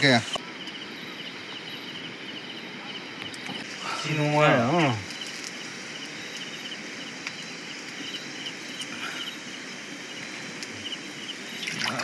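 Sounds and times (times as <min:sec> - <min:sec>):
insects chirping: 0:00.0 - 0:12.0
steady background hiss: 0:00.0 - 0:12.0.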